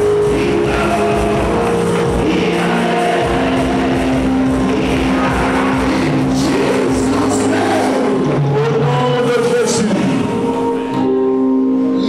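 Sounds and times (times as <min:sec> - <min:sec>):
congregation praying aloud: 0:00.0 - 0:10.9
worship music of held chords: 0:00.0 - 0:12.0.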